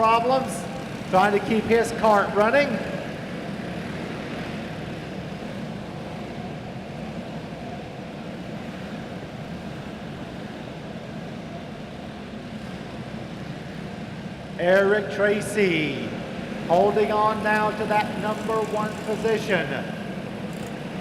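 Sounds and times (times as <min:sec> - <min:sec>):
distant go-kart engines droning: 0:00.0 - 0:21.0.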